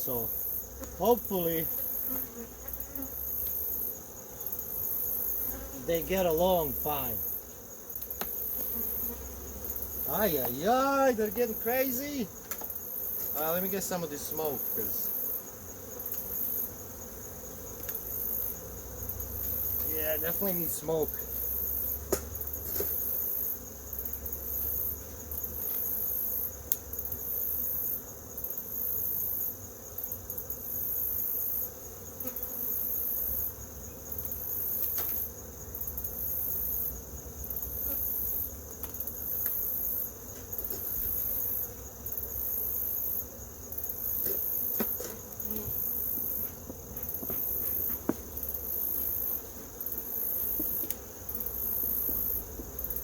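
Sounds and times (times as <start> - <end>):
high insect trill: 0.0 - 53.0
honeybees buzzing: 0.0 - 53.0.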